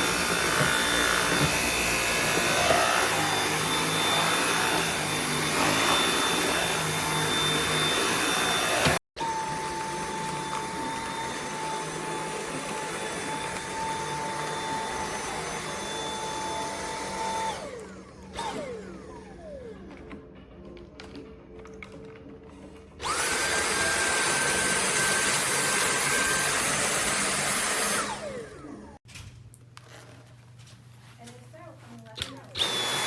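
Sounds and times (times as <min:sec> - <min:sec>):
vacuum cleaner whine: 0:00.0 - 0:20.0, 0:23.0 - 0:29.0, 0:32.6 - 0:33.0.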